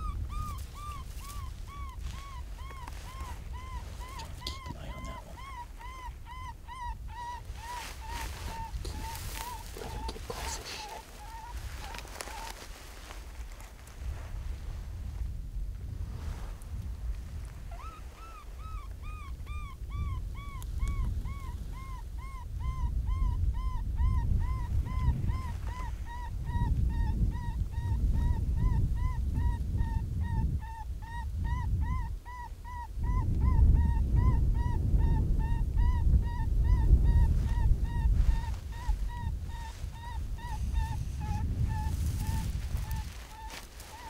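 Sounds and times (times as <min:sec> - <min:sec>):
whimpering predator call: 0:00.0 - 0:12.5, 0:17.7 - 0:44.0
wind rumbling on microphone: 0:00.0 - 0:44.0.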